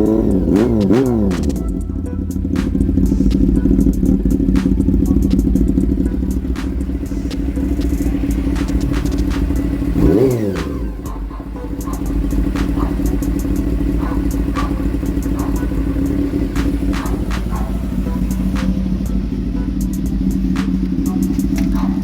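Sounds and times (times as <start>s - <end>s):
throttle blip: 0.0s - 21.9s
motorcycle engine idling: 0.0s - 22.0s.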